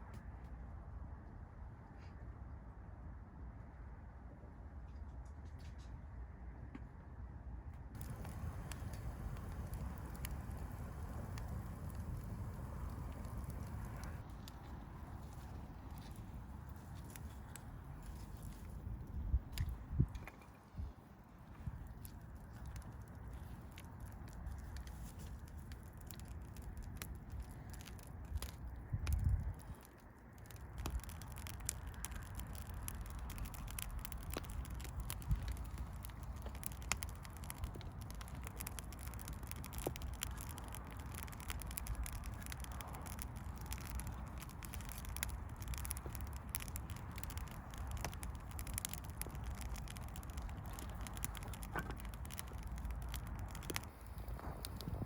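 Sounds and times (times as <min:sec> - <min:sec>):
firewood crackling and popping: 0:07.9 - 0:55.0.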